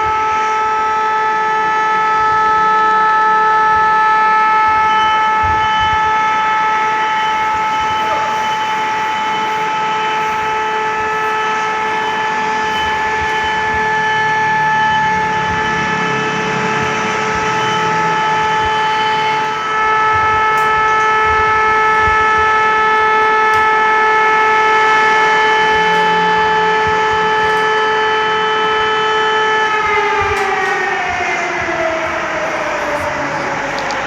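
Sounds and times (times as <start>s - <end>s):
alarm siren: 0.0s - 34.0s.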